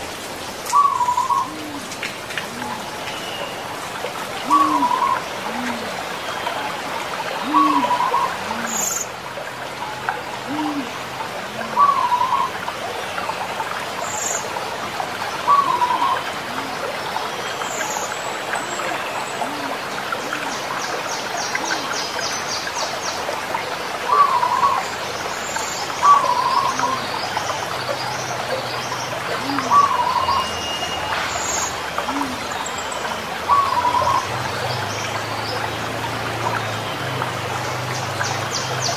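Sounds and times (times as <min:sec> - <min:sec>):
doves cooing: 0:00.7 - 0:12.9, 0:14.8 - 0:17.3, 0:18.6 - 0:22.1, 0:24.0 - 0:25.0, 0:25.9 - 0:31.0, 0:31.6 - 0:38.9.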